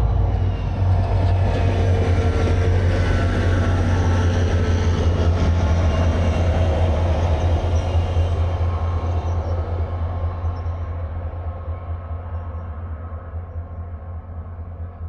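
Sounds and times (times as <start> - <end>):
diesel train engine drone: 0.0 - 15.0
train wheels rolling on rails: 0.0 - 15.0.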